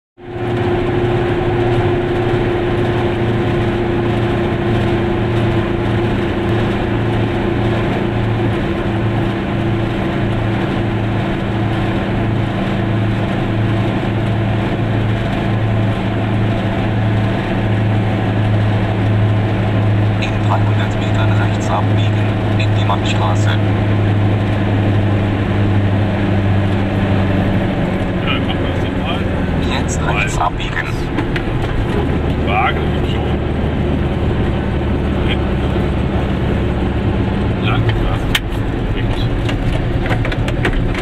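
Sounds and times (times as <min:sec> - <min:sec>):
two-stroke car engine running: 0:00.2 - 0:41.0
tyre and road noise: 0:00.2 - 0:41.0.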